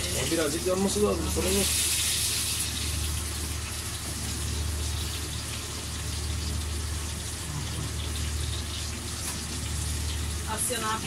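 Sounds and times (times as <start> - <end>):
chicken frying in hot oil: 0.0 - 11.0
constant low hum: 0.0 - 11.0.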